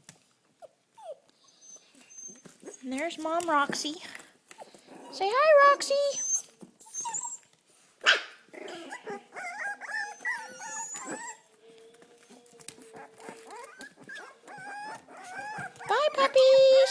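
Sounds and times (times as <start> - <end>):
puppies whimpering and squeaking: 0.6 - 3.1, 4.5 - 7.6, 8.5 - 16.9.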